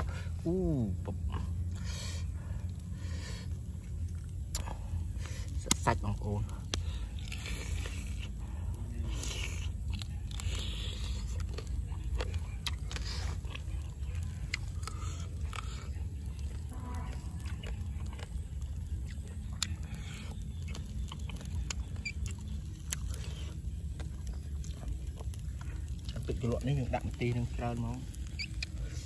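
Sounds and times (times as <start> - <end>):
low rumble: 0.0 - 29.0
person chewing with wet smacks: 1.1 - 29.0.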